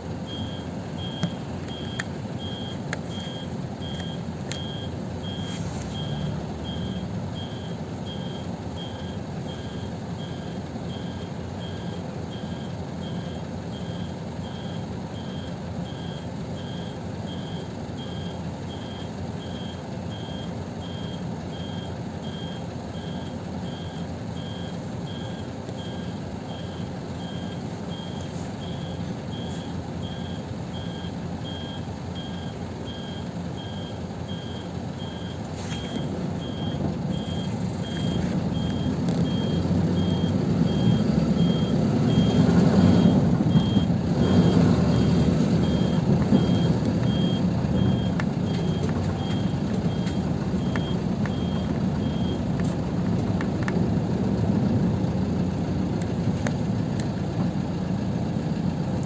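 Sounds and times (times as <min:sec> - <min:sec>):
bus engine idling: 0:00.0 - 0:59.0
electronic warning beep: 0:00.2 - 0:52.5.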